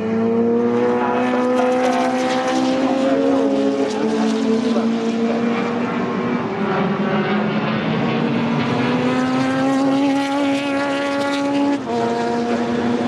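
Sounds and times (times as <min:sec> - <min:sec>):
racing car engine at full throttle: 0:00.0 - 0:13.0.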